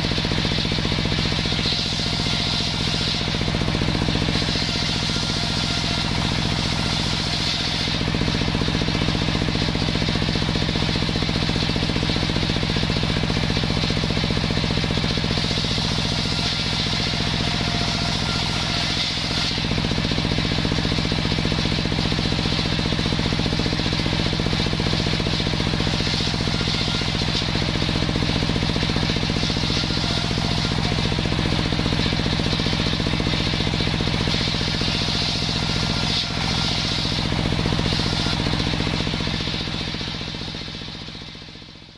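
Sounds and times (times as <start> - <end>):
table saw drive hum: 0.0 - 9.8, 14.6 - 40.7
saw blade cutting wood: 0.0 - 41.2.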